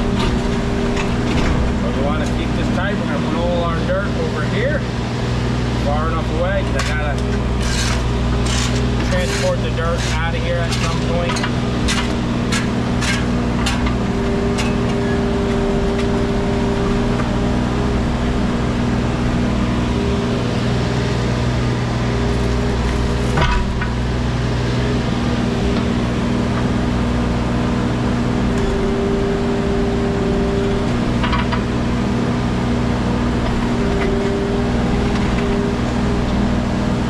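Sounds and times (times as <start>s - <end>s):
hydraulic whine: 0.0s - 37.0s
mini excavator engine running: 0.0s - 37.0s.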